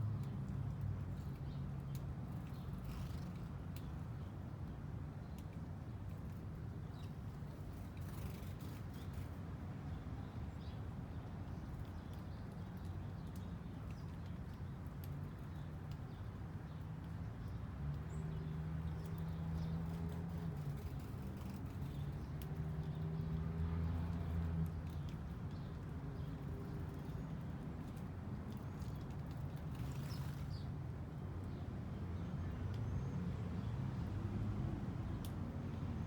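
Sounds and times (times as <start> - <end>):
small birds chirping: 1.1 - 4.4, 5.2 - 33.8.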